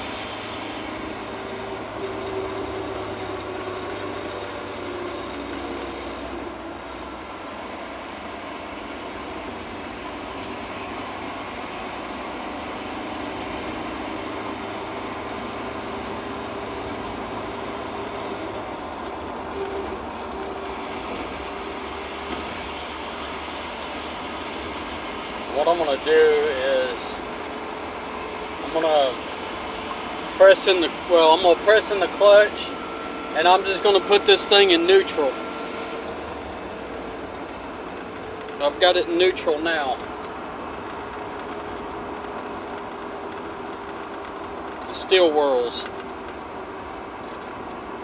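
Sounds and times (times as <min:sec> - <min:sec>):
differential whining: 0:00.0 - 0:48.0
road and drivetrain noise: 0:00.0 - 0:48.0.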